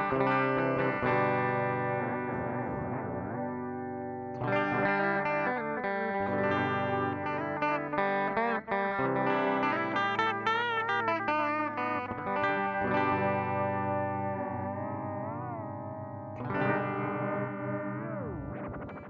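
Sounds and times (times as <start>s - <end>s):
electric guitar melody with delay: 0.0s - 19.0s.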